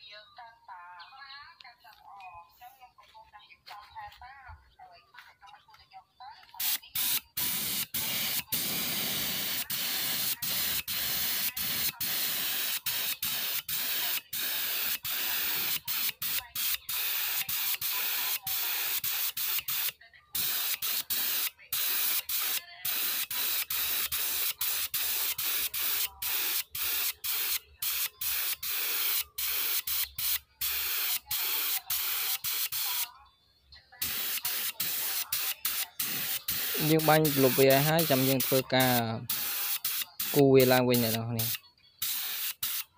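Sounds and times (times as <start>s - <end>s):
spray gun hissing: 6.6s - 33.1s, 34.0s - 42.9s.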